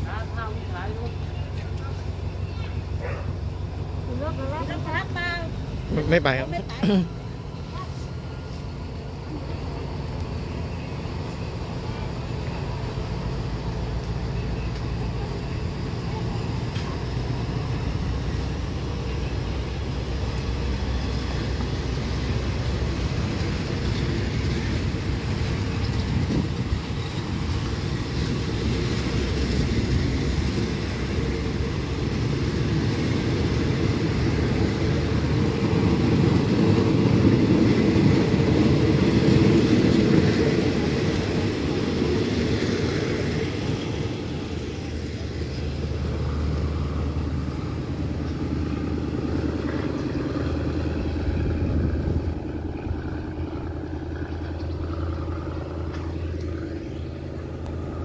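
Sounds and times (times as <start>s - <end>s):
low train hum: 0.0s - 58.0s
train rumbling along rails: 0.0s - 58.0s.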